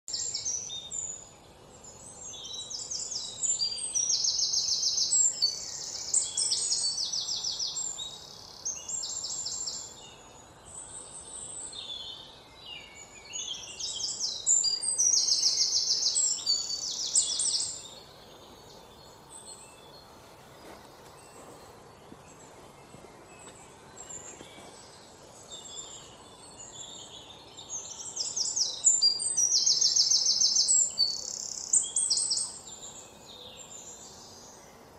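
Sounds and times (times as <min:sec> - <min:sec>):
birds chirping trills: 0:00.1 - 0:34.9.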